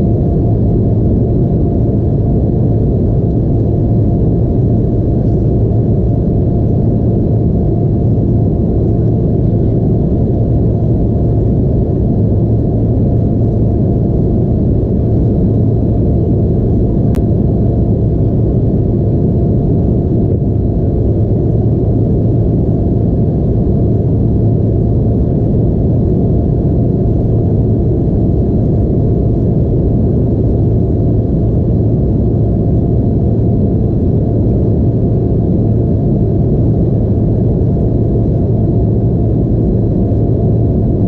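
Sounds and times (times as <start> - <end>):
jet engine drone in cabin: 0.0 - 41.0.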